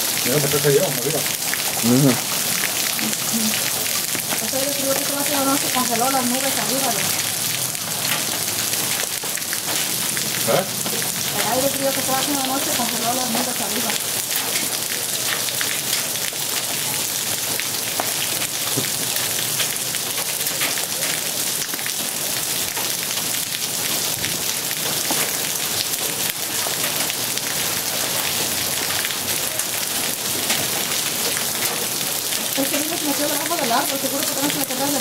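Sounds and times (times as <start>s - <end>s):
hail and rain pelting: 0.0s - 35.0s.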